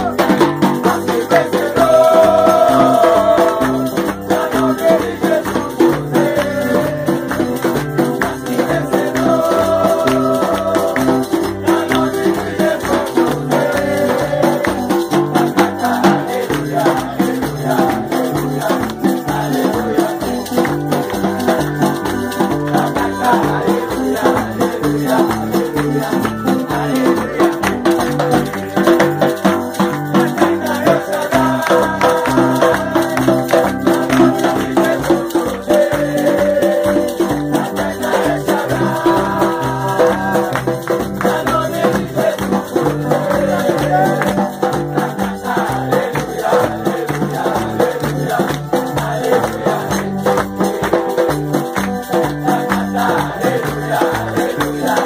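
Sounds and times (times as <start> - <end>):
congregation singing: 0.0 - 55.0
electric guitar: 0.0 - 55.0
electric keyboard: 0.0 - 55.0
hand drum beat: 0.0 - 55.0
people clapping along: 0.0 - 55.0
worship band playing upbeat song: 0.0 - 55.0.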